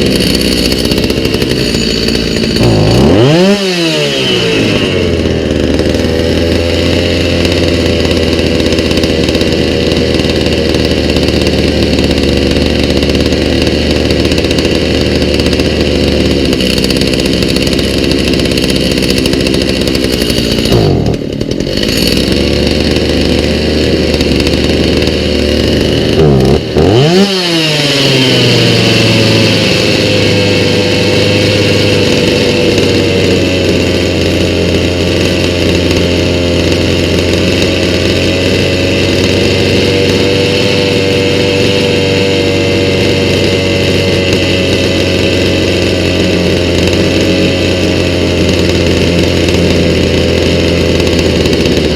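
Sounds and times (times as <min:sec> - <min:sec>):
chainsaw engine running: 0:00.0 - 0:51.9.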